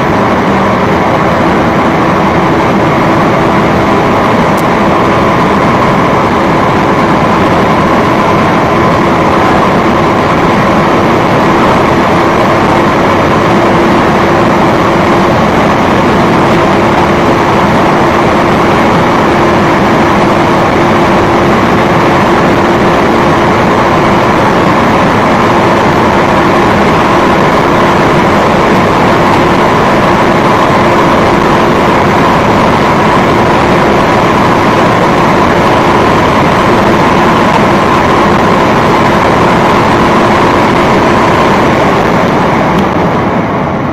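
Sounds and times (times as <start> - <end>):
car engine droning: 0.0 - 43.9
road and wind rushing: 0.0 - 43.9.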